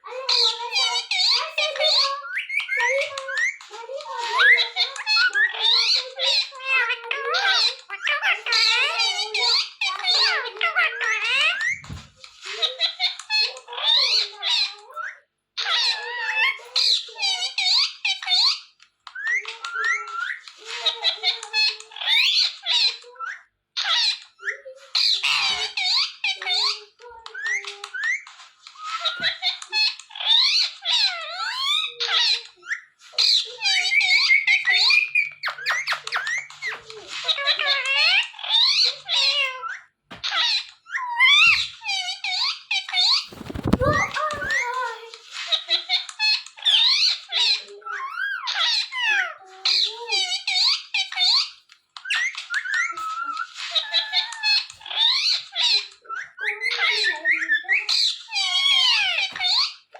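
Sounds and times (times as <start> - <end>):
parakeet chattering: 0.3 - 59.9.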